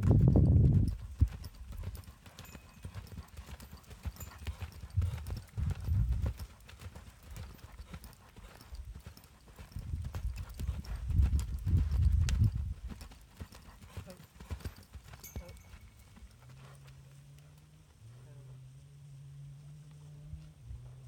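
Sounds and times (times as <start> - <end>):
horse hoofbeats on sand: 0.0 - 17.6.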